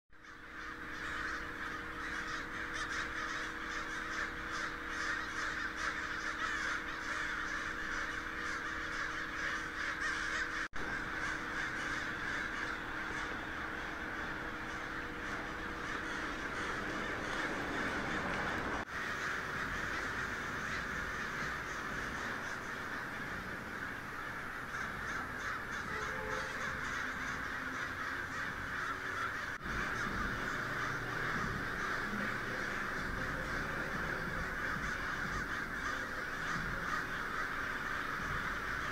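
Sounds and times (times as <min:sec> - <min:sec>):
flock of crows cawing: 0:00.2 - 0:38.9.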